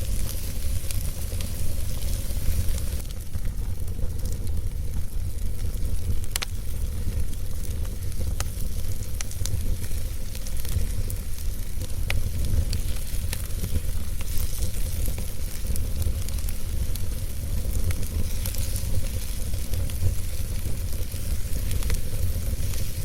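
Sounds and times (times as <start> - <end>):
low rumble of flames: 0.0 - 23.0.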